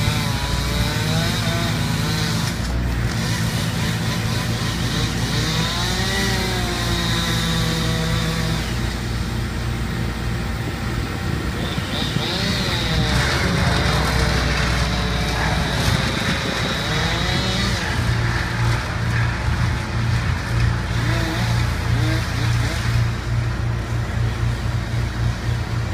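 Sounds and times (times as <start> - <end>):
heavy machinery engine droning: 0.0 - 25.9.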